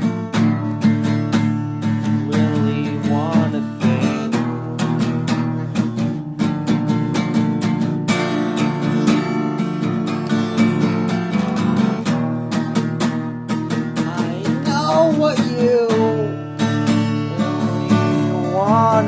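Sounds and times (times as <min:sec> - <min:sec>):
bending guitar melody line: 0:00.0 - 0:19.0
strummed rock guitar chords: 0:00.0 - 0:19.0.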